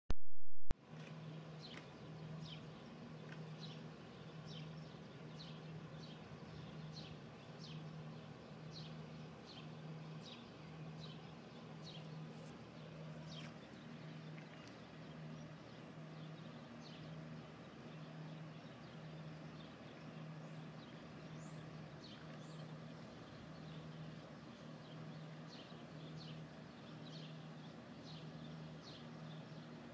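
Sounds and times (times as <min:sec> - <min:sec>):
pulsing low hum: 0:00.6 - 0:29.9
small bird chirping: 0:01.6 - 0:29.8.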